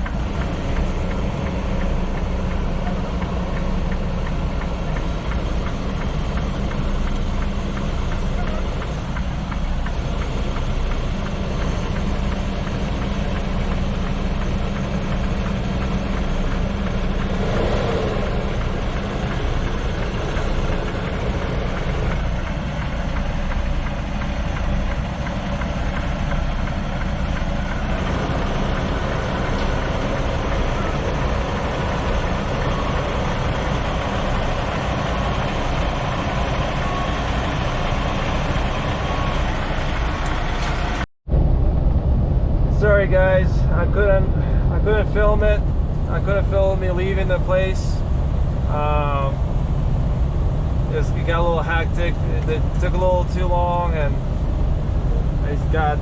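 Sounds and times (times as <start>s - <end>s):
diesel truck engine rumbling: 0.0s - 56.0s.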